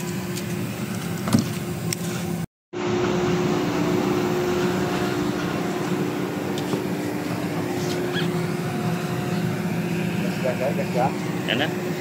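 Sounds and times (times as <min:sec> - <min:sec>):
ship engine hum: 0:00.7 - 0:12.0.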